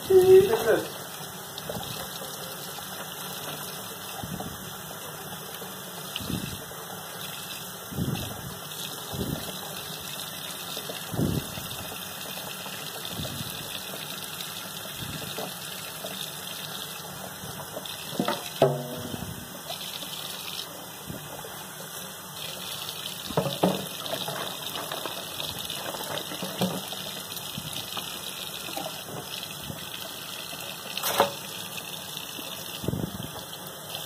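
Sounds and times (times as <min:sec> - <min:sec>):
faucet running into sink: 0:00.0 - 0:34.0
water running into plastic bowl: 0:00.0 - 0:34.0.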